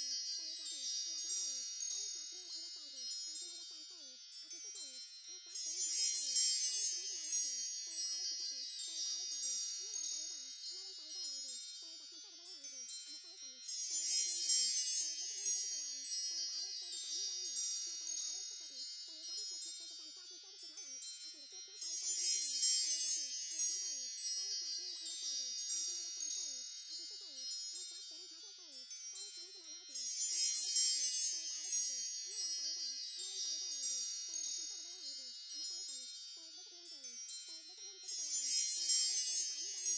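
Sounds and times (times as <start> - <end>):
tinkling wind chimes: 0.0 - 39.9.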